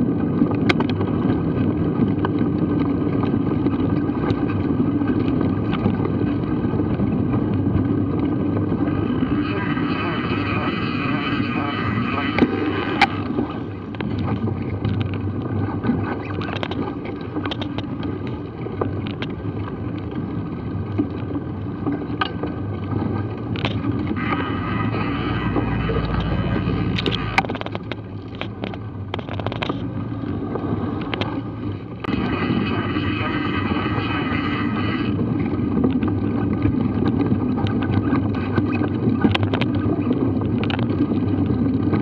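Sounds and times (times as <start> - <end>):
bike clicking and rattling: 0.0 - 9.6, 12.2 - 32.1, 33.9 - 42.0
deep low rumble: 0.0 - 42.0
wind noise on microphone: 0.0 - 42.0.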